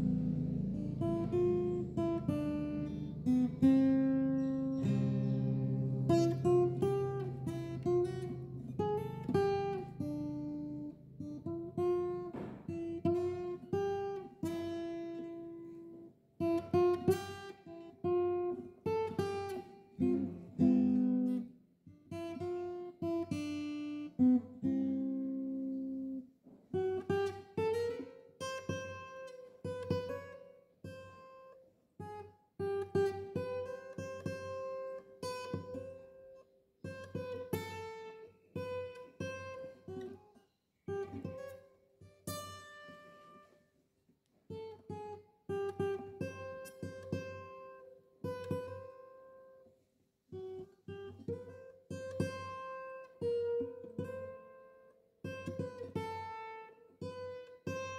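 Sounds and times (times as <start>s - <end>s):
acoustic guitar music: 0.0s - 57.9s.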